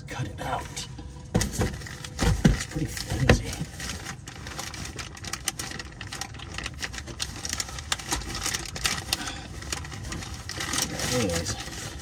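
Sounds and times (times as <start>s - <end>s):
plastic bag crinkling and rustling: 0.4s - 12.0s.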